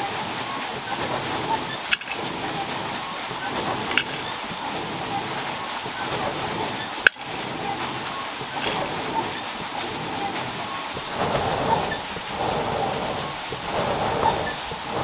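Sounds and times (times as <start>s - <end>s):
forge fire roaring and crackling: 0.0s - 15.0s.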